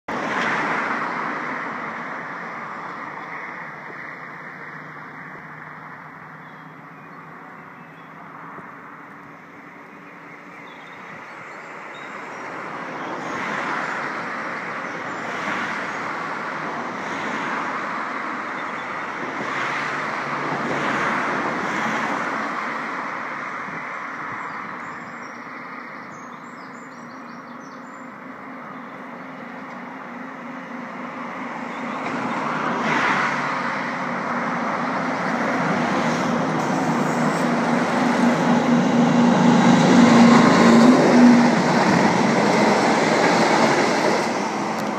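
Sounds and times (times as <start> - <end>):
distant vehicle noise: 0.1 - 44.9.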